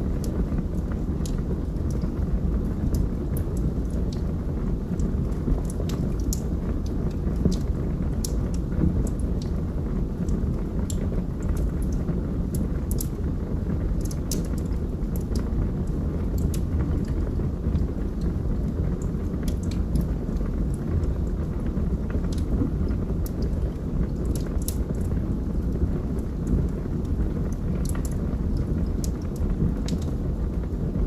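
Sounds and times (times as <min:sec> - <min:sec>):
burning wood crackling: 0:00.0 - 0:31.0
low rush of flame: 0:00.0 - 0:31.0.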